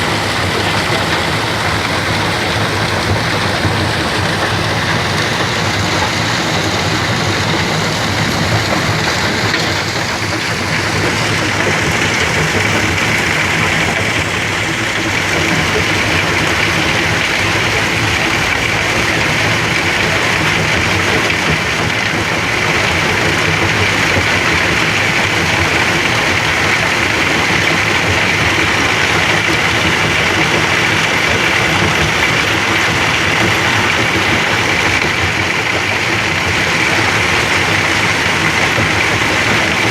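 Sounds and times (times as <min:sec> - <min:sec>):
engine hum: 0:00.0 - 0:39.9.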